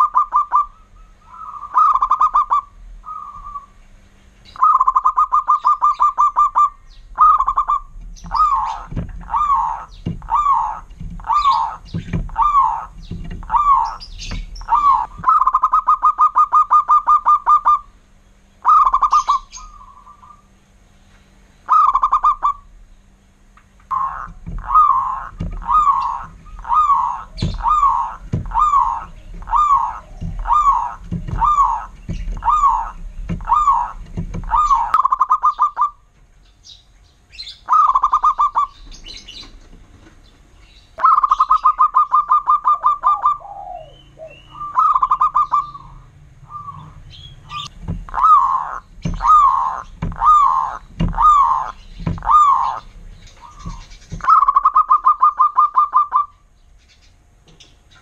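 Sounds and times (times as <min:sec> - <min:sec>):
dove cooing: 0:00.0 - 0:03.8, 0:04.5 - 0:18.0, 0:18.6 - 0:20.6, 0:21.6 - 0:22.8, 0:23.9 - 0:36.1, 0:37.6 - 0:40.4, 0:41.0 - 0:56.5
bird rattling trills: 0:04.4 - 0:17.9, 0:18.6 - 0:20.6, 0:23.8 - 0:43.4, 0:44.6 - 0:58.0.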